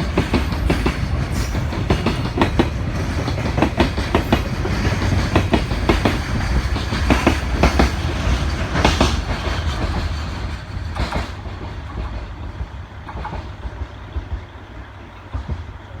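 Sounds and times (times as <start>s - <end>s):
freight train rumble: 0.0s - 16.0s
train wheels clacking over rail joints: 0.0s - 16.0s.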